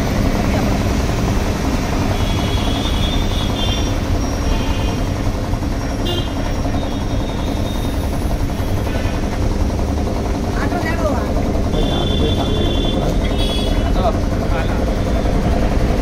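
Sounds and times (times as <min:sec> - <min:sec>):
air compressor chugging: 0:00.0 - 0:16.0.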